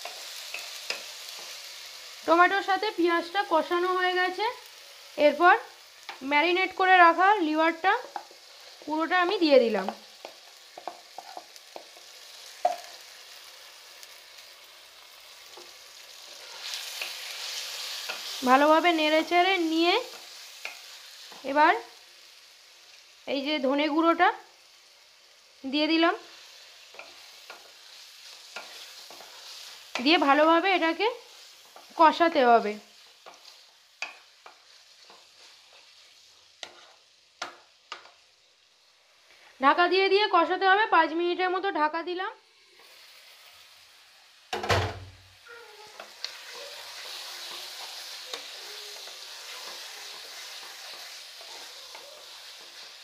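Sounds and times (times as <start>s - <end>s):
liver sizzling in hot oil: 0.0s - 53.0s.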